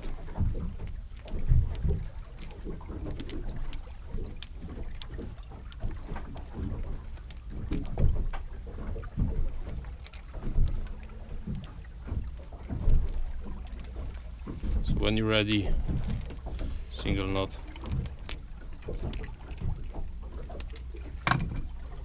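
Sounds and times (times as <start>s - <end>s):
knocks and slaps of boat: 0.0s - 22.0s.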